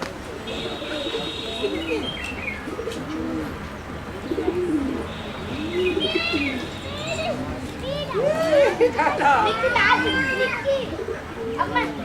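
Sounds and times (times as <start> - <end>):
birds chirping: 0.3 - 12.0
low bird coos: 0.5 - 8.8, 9.7 - 12.0.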